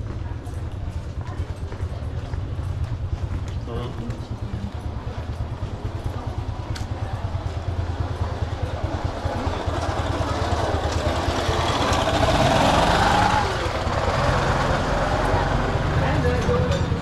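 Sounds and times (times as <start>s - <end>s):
motor scooter engine running: 0.0s - 17.0s.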